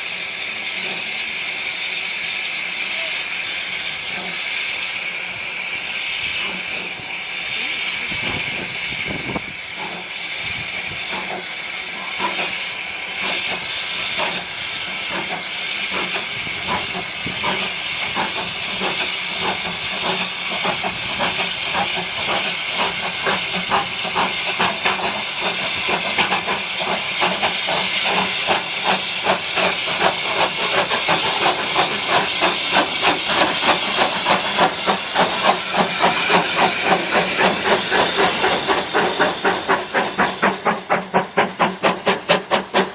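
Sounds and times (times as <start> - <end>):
steam locomotive hissing steam: 0.0 - 42.9.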